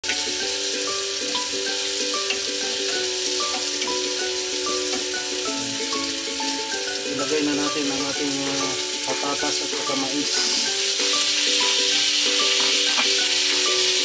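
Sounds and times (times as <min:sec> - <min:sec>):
background music: 0:00.0 - 0:14.0
beans sizzling in frying pan: 0:00.0 - 0:14.0.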